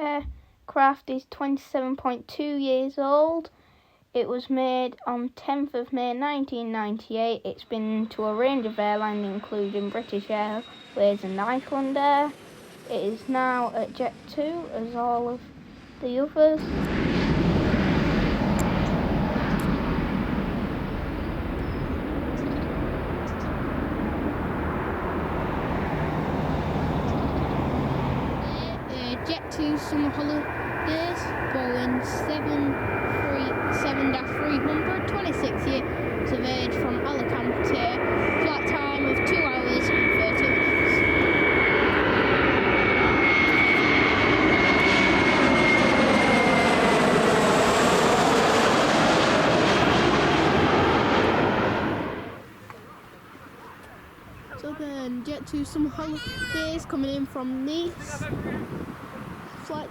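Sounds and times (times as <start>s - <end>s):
jet airliner engines roaring: 7.6s - 59.9s.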